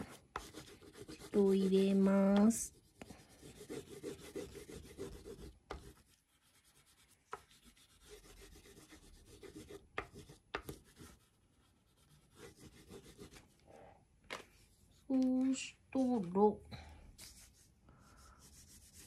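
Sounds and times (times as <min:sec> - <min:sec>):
crayon scratching on paper: 0:00.0 - 0:13.5, 0:17.2 - 0:19.0.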